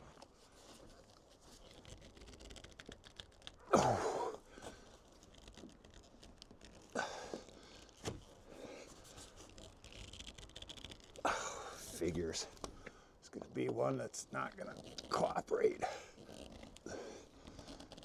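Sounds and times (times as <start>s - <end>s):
plastic scraping and creaking: 0.0s - 3.7s, 4.3s - 18.0s.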